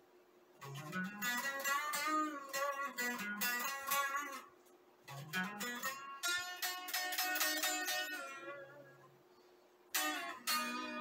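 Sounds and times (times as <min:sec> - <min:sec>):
electric guitar melody: 0:00.6 - 0:09.2, 0:09.9 - 0:11.0.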